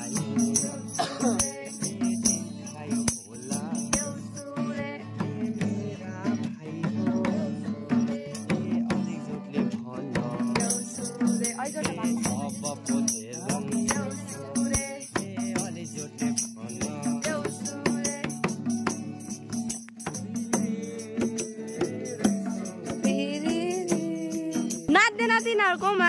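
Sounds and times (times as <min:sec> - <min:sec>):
singing over fast percussion beat: 0:00.0 - 0:26.0.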